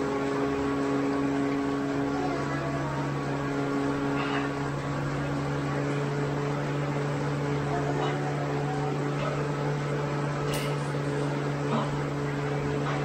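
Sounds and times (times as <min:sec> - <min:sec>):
bicycle trainer droning: 0:00.0 - 0:13.0.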